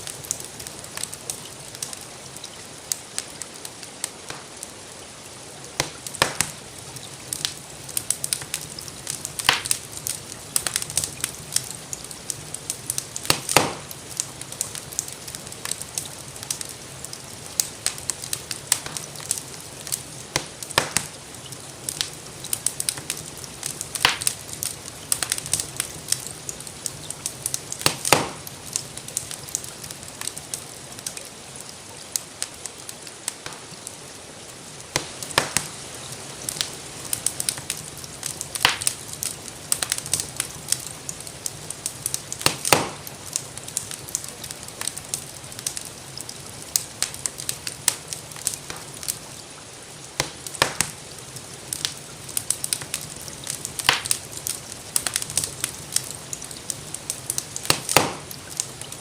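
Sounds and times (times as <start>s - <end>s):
rain hissing: 0.0s - 59.0s
wood fire crackling: 0.0s - 59.0s.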